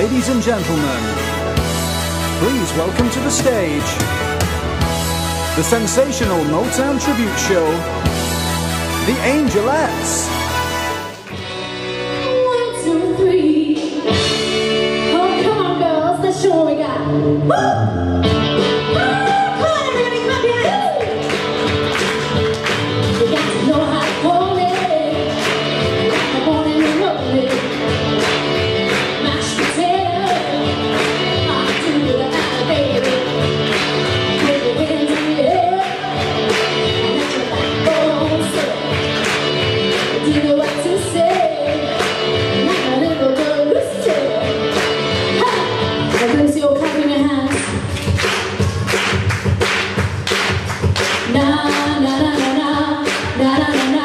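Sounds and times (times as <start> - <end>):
backing music with drum beat: 0.0 - 11.8, 18.2 - 54.0.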